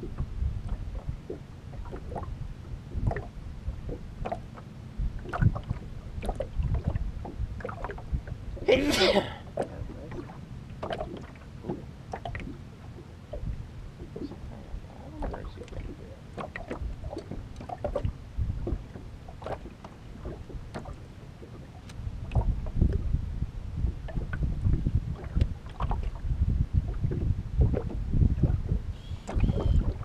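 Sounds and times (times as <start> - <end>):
waves slapping boat hull: 0.0 - 30.0
wind rumbling on microphone: 0.0 - 30.0.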